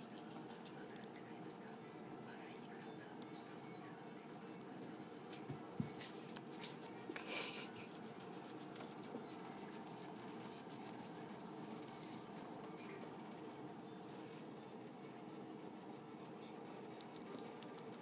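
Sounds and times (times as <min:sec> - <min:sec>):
guinea pig chewing: 0:00.0 - 0:18.0.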